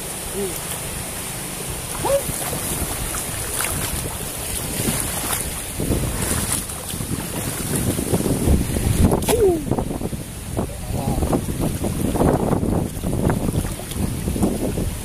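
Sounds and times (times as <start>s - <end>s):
water splashing and sloshing: 0.0s - 15.0s
wind on microphone: 0.0s - 15.0s.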